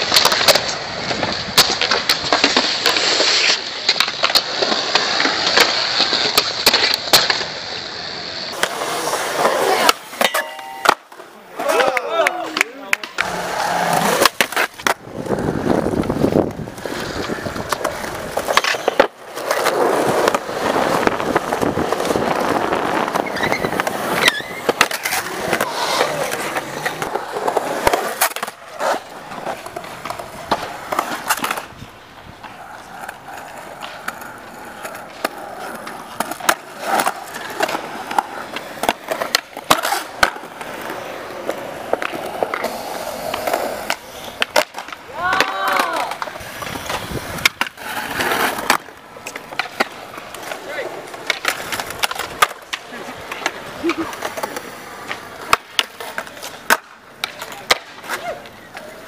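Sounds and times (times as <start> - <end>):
skateboard clacks: 0.0 - 59.0
skateboard grinding on concrete: 0.0 - 59.0
skateboard wheels rolling on concrete: 0.0 - 59.0.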